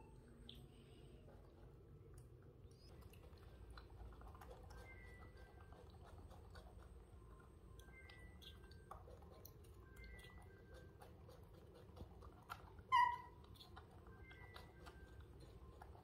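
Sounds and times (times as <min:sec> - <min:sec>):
faint chewing and biting: 0:00.3 - 0:16.0.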